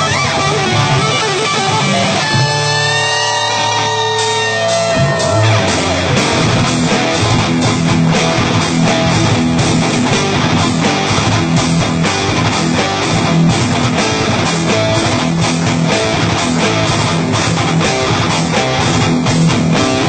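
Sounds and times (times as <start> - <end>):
electric guitar rock instrumental: 0.0 - 20.0.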